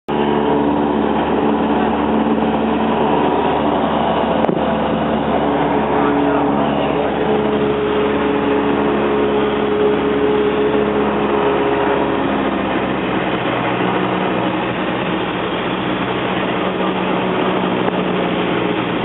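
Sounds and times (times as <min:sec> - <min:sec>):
light aircraft engine droning: 0:00.1 - 0:19.0
rushing airflow: 0:00.1 - 0:19.0.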